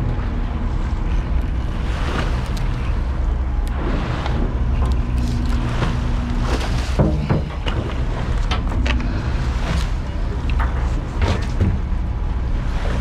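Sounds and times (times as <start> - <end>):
boat engine humming: 0.0 - 13.0
water sloshing along hull: 0.0 - 13.0.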